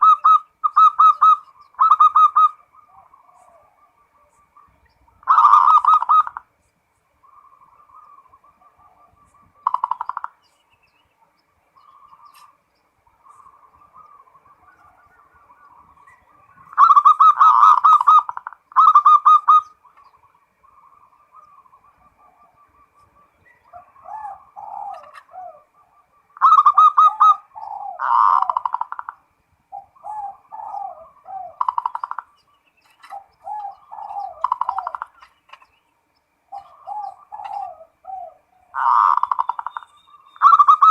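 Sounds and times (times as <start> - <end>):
dove cooing: 0.0 - 6.6, 7.2 - 10.5, 11.8 - 35.7, 36.4 - 40.9.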